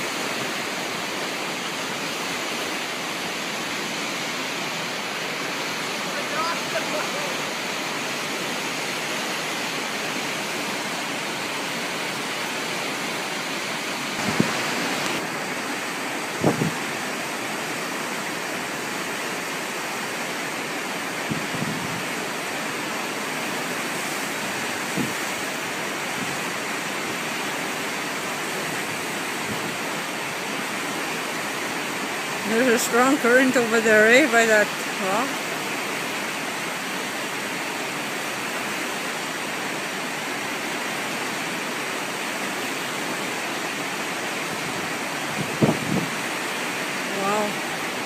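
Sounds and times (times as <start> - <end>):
river rapids rushing: 0.0 - 48.0.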